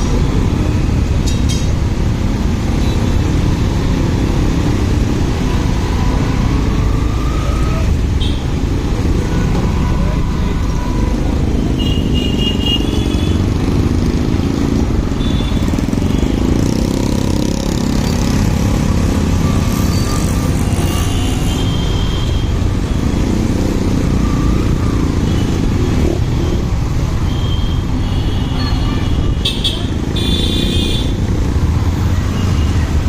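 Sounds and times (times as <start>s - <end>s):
road noise: 0.0s - 33.0s.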